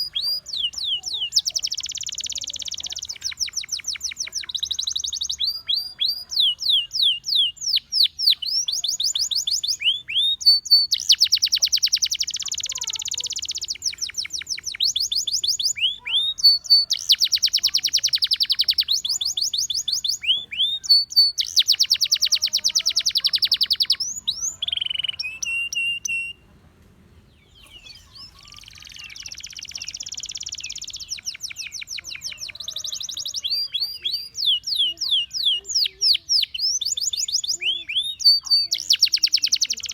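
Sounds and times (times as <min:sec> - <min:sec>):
canary singing: 0:00.0 - 0:26.5, 0:27.3 - 0:39.9.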